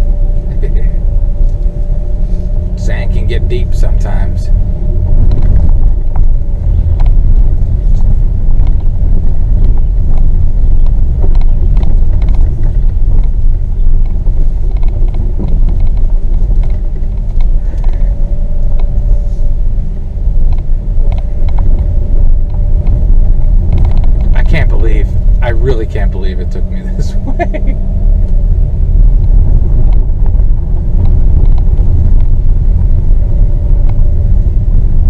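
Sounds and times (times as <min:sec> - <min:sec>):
car driving on dirt trail: 0:00.0 - 0:35.0.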